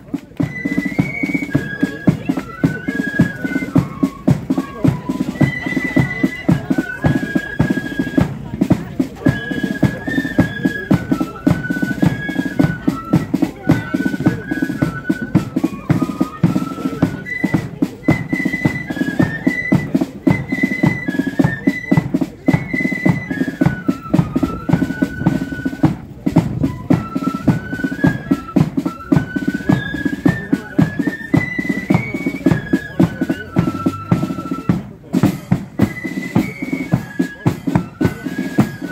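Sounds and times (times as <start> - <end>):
drums beating: 0.0 - 38.9
flutes playing melody: 0.0 - 38.9.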